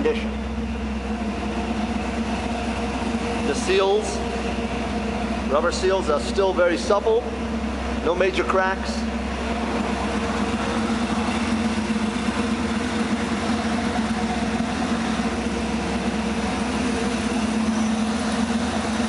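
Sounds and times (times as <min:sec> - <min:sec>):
vee eight engine idling: 0:00.0 - 0:19.0.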